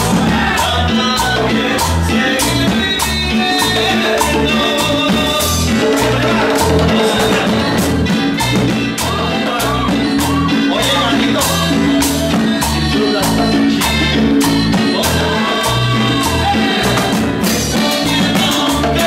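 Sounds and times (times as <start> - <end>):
congas: 0.0 - 19.0
latin dance band playing: 0.0 - 19.0.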